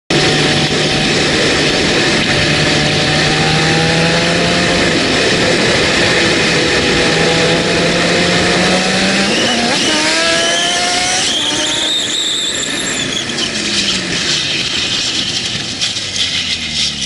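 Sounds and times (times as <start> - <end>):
wind rushing over microphone: 0.1 - 16.6
motorcycle engine droning: 0.1 - 17.0.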